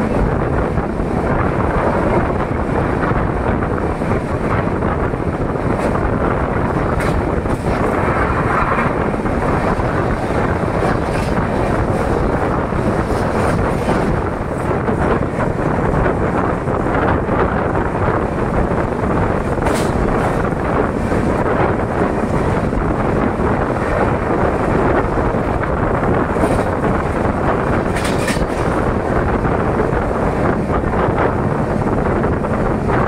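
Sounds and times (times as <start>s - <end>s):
train running rumble: 0.0s - 33.0s
wind buffeting microphone: 0.0s - 33.0s.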